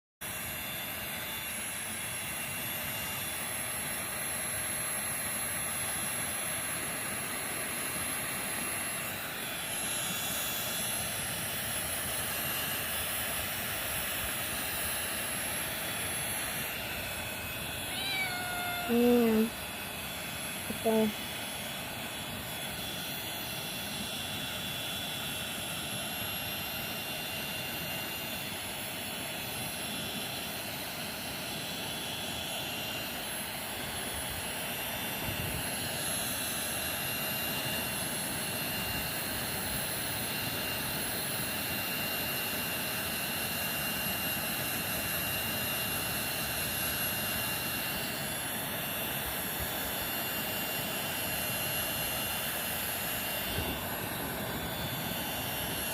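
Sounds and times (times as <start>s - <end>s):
hair dryer blowing: 0.3s - 43.1s, 43.7s - 55.9s.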